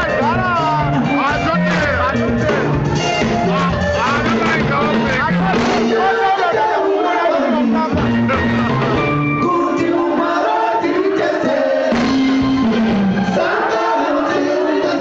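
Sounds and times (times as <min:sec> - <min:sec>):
bass guitar: 0:00.0 - 0:06.8, 0:07.4 - 0:10.2, 0:11.1 - 0:15.0
electric guitar: 0:00.0 - 0:06.8, 0:07.4 - 0:15.0
man singing lead: 0:00.0 - 0:12.4, 0:13.4 - 0:15.0
backing vocals: 0:00.0 - 0:12.5, 0:13.2 - 0:15.0.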